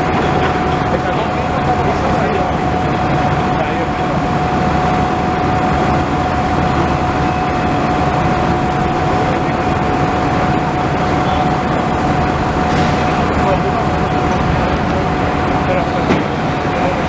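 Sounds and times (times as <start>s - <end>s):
heavy machinery rumble: 0.0s - 17.0s
high-pitched machine whine: 0.0s - 17.0s.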